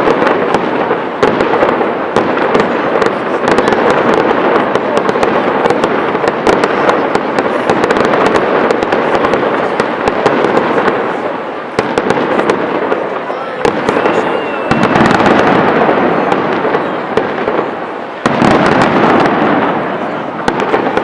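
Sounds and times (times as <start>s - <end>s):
fireworks crackling: 0.0s - 21.0s
rumble of firework bursts: 0.0s - 21.0s.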